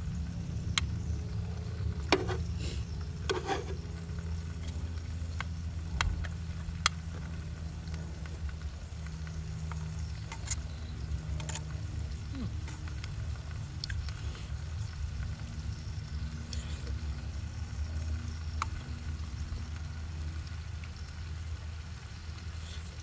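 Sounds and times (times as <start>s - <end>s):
food sizzling on a grill: 0.0s - 23.0s.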